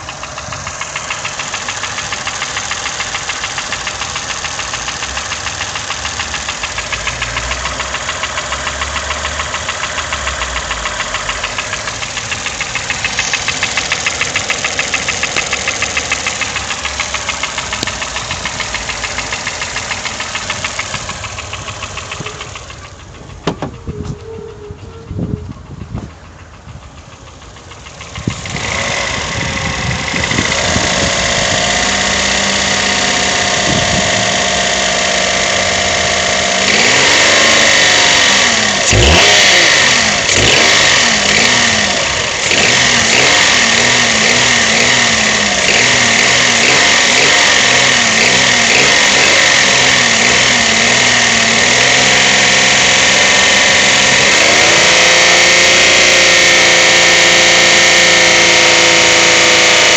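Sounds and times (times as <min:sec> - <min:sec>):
knocking petrol engine revving: 0:00.0 - 0:59.9.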